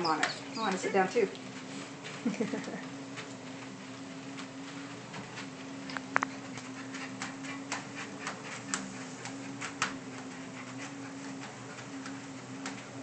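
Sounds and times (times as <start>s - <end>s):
treadmill motor hum: 0.0s - 13.0s.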